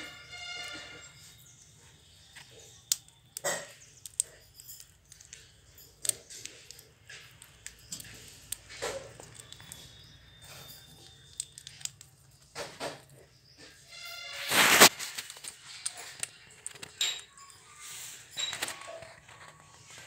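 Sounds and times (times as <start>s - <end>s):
parakeets chewing fruit: 0.0s - 20.0s.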